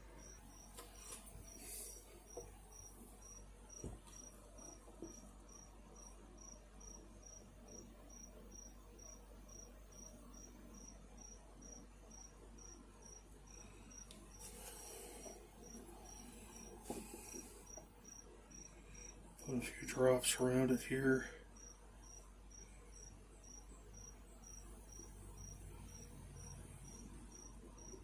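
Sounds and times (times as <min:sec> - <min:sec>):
cricket chirping: 0:00.0 - 0:19.2, 0:21.6 - 0:28.0.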